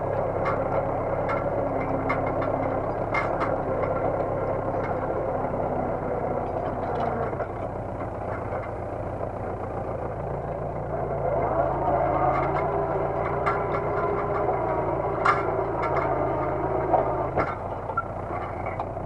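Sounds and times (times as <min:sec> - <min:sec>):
tractor diesel engine pulling: 0:00.0 - 0:19.0.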